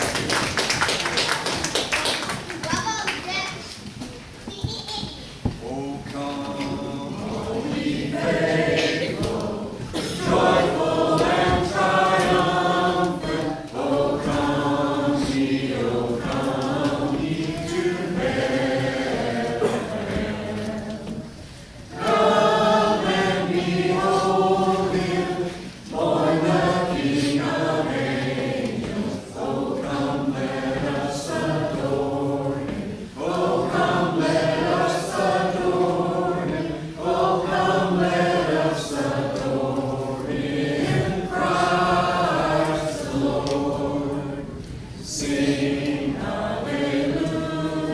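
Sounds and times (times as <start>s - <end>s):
congregation singing a carol: 5.4s - 47.9s.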